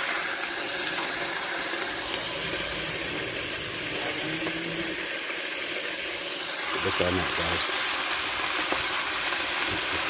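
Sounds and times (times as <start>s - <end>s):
pot hissing on gas stove: 0.0s - 10.0s.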